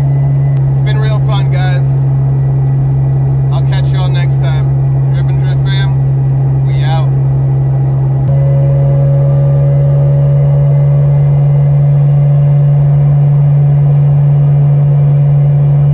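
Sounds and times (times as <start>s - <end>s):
car engine droning: 0.0s - 15.9s.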